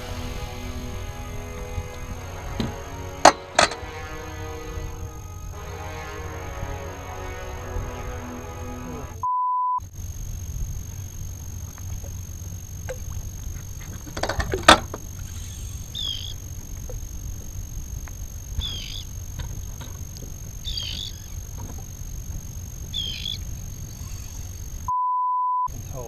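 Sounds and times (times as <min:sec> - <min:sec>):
faint high whine: 0:00.0 - 0:26.0.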